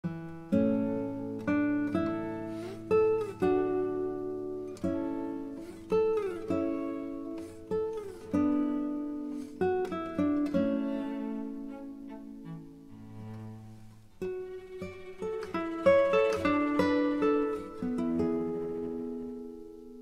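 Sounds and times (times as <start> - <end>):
acoustic guitar plucking: 0.0 - 20.0.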